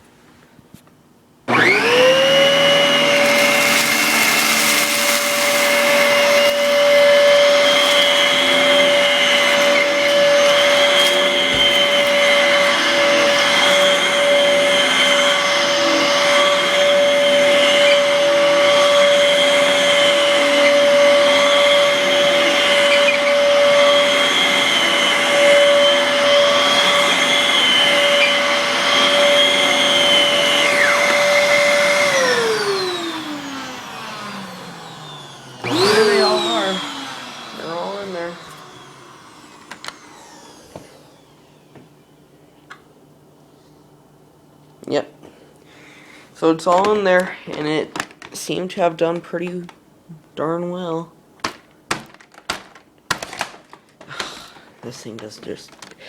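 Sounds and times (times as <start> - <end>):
vacuum cleaner whining: 1.4 - 56.0.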